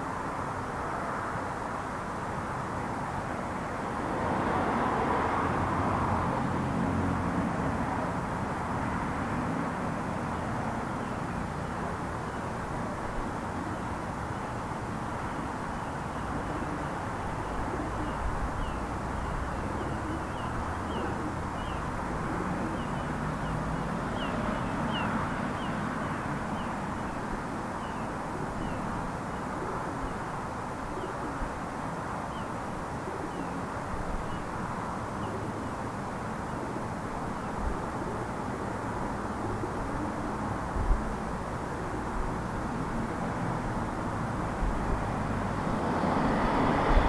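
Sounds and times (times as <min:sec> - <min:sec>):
distant road traffic hum: 0:00.0 - 0:47.0.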